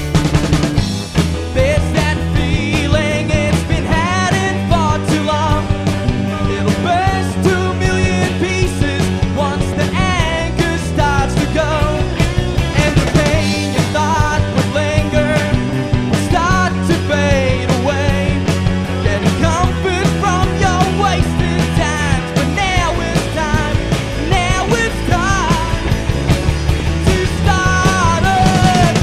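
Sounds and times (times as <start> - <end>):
bass guitar: 0.0 - 29.0
drum beat: 0.0 - 29.0
electric guitar: 0.0 - 29.0
man singing: 1.4 - 29.0.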